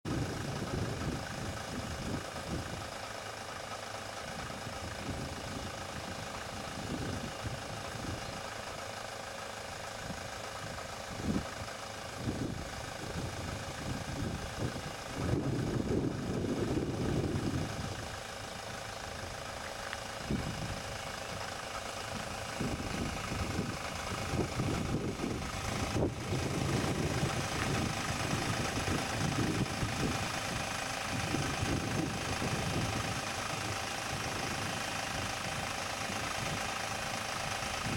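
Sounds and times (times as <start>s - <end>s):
van engine running at low speed: 0.0s - 37.9s.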